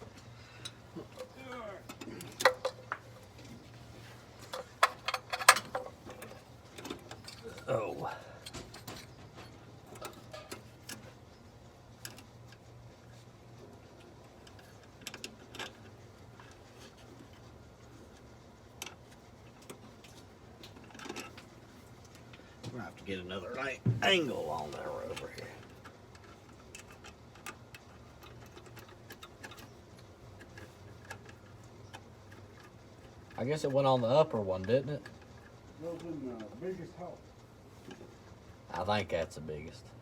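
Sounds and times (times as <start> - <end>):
light clicks and taps on engine parts: 0.0 - 3.8, 4.4 - 11.2, 12.0 - 23.1, 24.7 - 38.2
steady low hum: 0.0 - 40.0.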